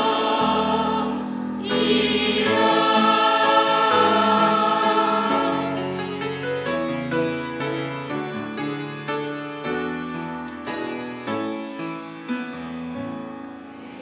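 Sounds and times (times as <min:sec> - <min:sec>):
slow piano chords and notes: 0:00.0 - 0:14.0.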